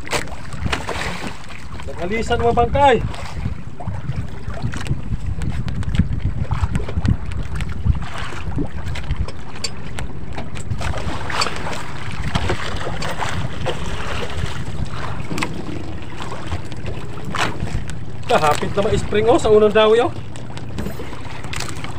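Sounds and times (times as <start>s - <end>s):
wind buffeting microphone: 0.0s - 21.9s.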